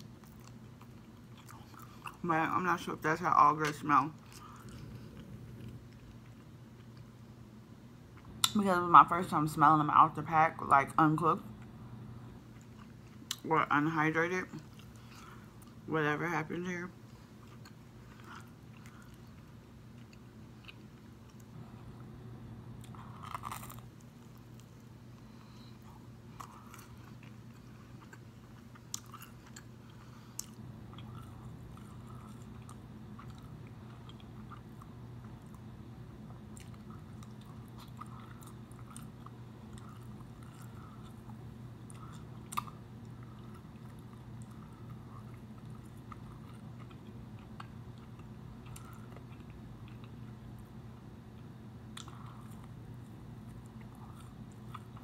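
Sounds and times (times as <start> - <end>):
chewing crunchy toast: 0.0 - 2.2, 4.2 - 7.2, 12.4 - 13.4, 14.5 - 15.8, 17.0 - 21.6, 22.8 - 55.0
steady low hum: 0.0 - 55.0.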